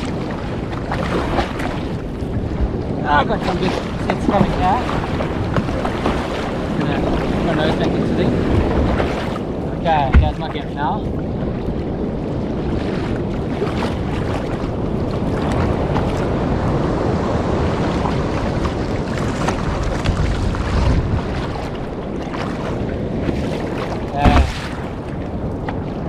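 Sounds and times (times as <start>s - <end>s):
surf and water splashing: 0.0s - 26.0s
wind on microphone: 0.0s - 26.0s.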